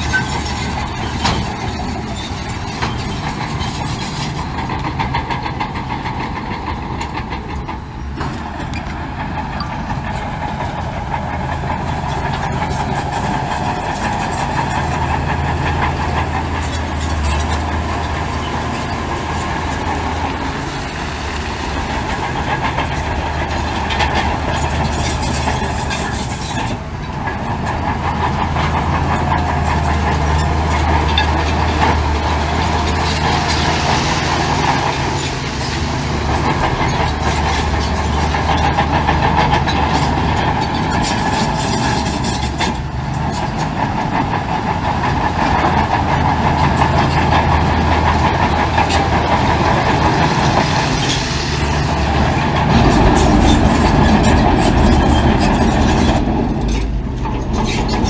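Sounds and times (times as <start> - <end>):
diesel engine under load: 0.0 - 58.0
metallic clatter and rattle: 0.0 - 58.0.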